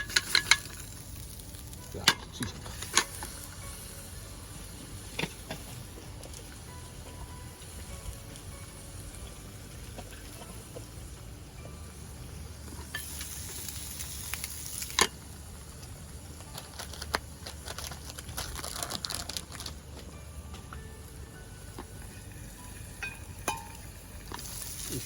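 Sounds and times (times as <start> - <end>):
food sizzling in a pan: 0.0 - 19.0, 21.0 - 25.0
crackles and ticks: 0.0 - 25.0.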